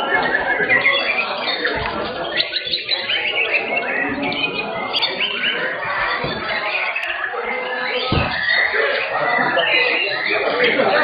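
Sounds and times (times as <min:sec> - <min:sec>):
songbirds singing and chirping: 0:00.0 - 0:11.0.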